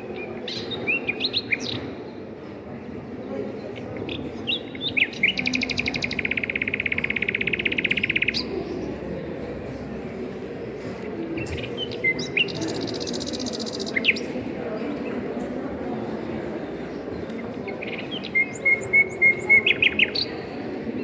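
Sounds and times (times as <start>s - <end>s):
songbird chirping and trilling: 0.0s - 2.0s, 3.5s - 10.4s, 11.1s - 21.0s.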